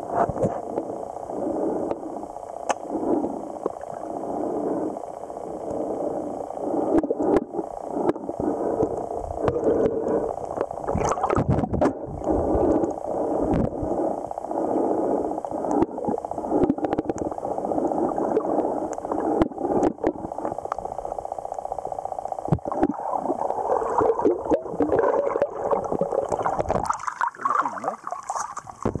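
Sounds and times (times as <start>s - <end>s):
muffled underwater stream rush: 0.0s - 29.0s.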